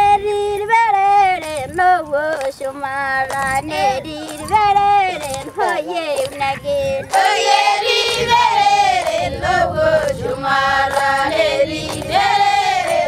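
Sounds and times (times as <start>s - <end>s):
women singing chant-like group song: 0.0s - 13.0s.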